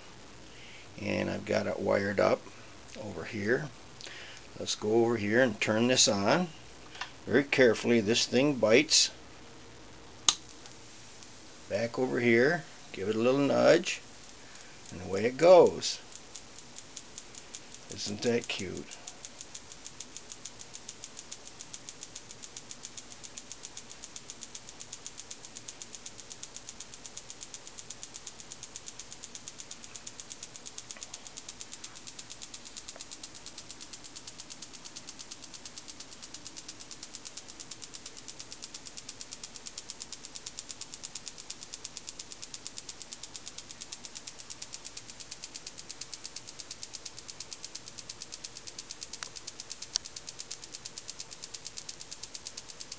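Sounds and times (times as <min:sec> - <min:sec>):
electrostatic motor ticking: 0:00.0 - 0:52.9.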